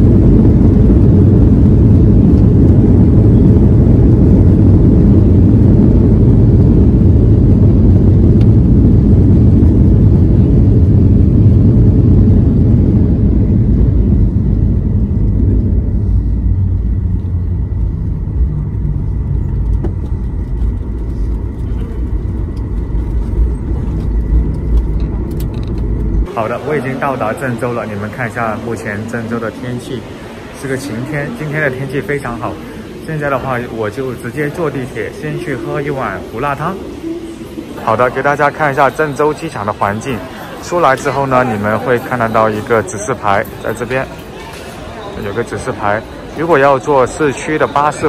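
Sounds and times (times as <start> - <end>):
jet airliner cabin rumble: 0.0 - 48.0.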